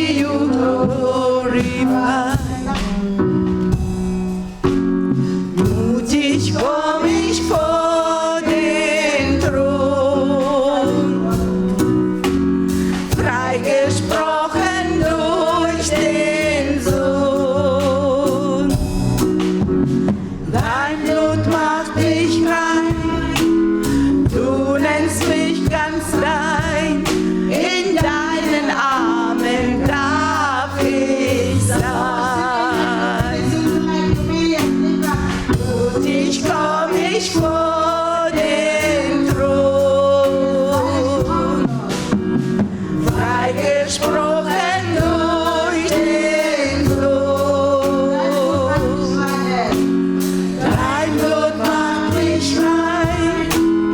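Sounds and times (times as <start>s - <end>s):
choir singing: 0.0s - 3.6s, 5.5s - 18.9s, 20.5s - 53.9s
bass line: 0.0s - 53.9s
drum beat: 0.9s - 53.8s.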